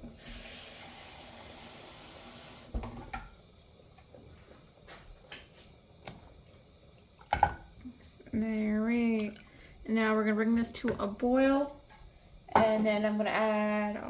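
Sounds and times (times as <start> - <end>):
tap water running: 0.0 - 4.2, 4.8 - 14.0.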